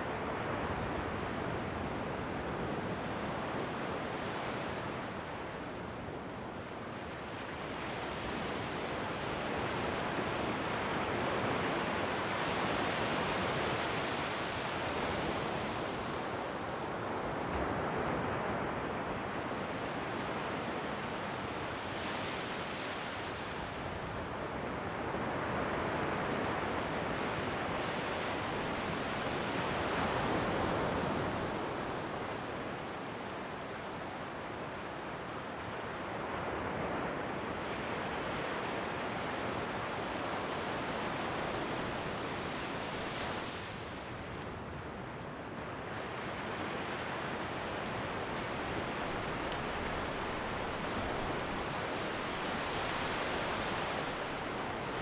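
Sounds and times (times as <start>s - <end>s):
ocean waves on shore: 7.2s - 55.0s.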